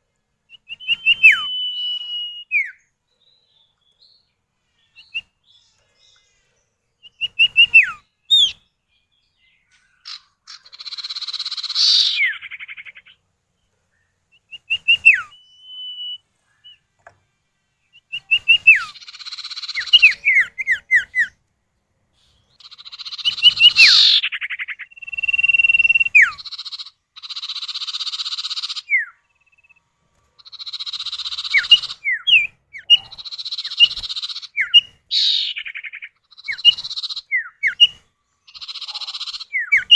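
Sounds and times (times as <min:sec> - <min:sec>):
birds whistling and chattering: 0:00.5 - 0:17.2, 0:17.8 - 0:21.4, 0:22.1 - 0:39.9.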